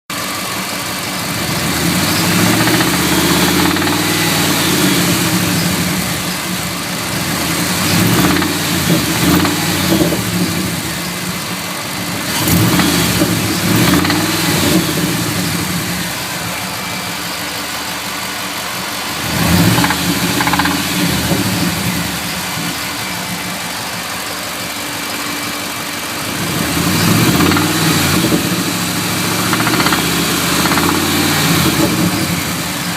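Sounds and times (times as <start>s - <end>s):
car engine idling and revving: 0.1s - 32.9s
engine knocking noise: 0.1s - 32.9s.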